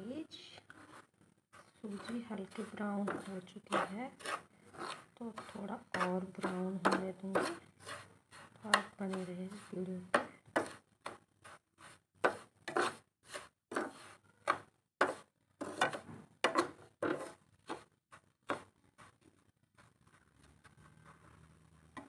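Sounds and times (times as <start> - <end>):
spoon scraping semolina in a pan: 0.7 - 19.2.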